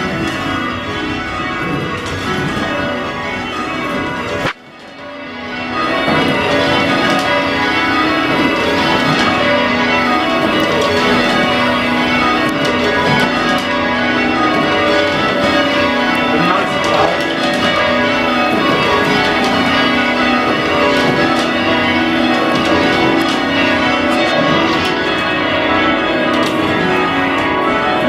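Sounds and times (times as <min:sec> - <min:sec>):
church bells change ringing: 0:00.0 - 0:28.0.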